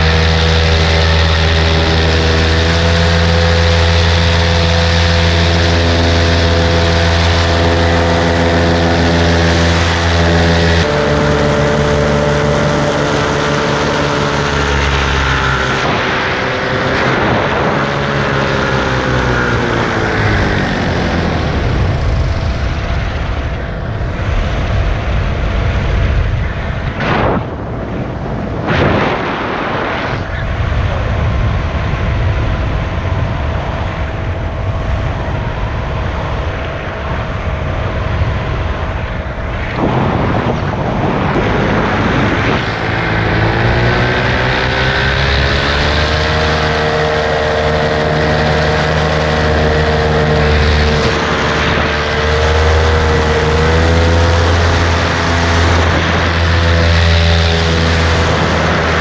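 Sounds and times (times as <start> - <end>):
paramotor engine: 0.0 - 59.0
wind rushing over microphone: 0.0 - 59.0.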